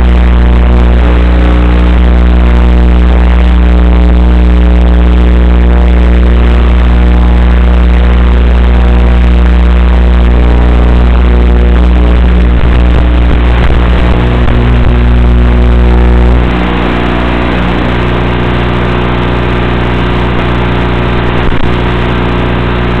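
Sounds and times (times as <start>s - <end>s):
deep low rumble: 0.0s - 23.0s
drone buzzing hum with hiss: 0.0s - 23.0s.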